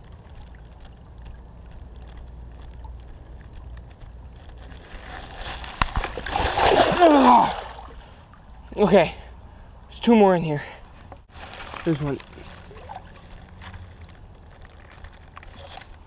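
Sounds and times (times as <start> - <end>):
water splashing and sloshing: 0.0 - 9.8, 10.9 - 16.0.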